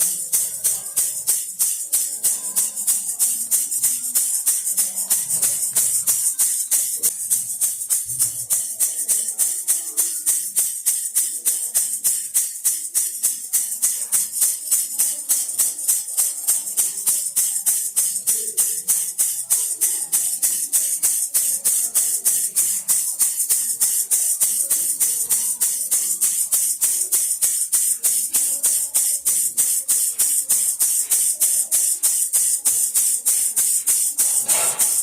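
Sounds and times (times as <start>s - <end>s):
baby rattle shaken: 0.0s - 35.0s.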